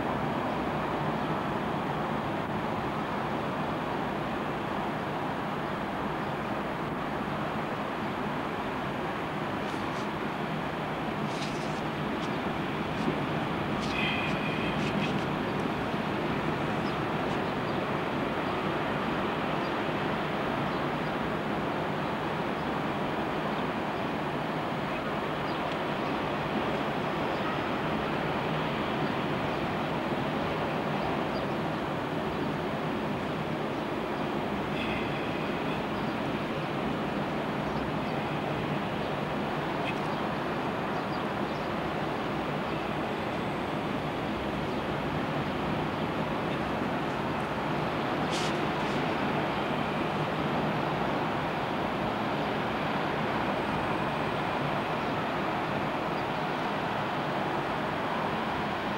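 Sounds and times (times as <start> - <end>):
ocean surf and wind: 0.0 - 58.9.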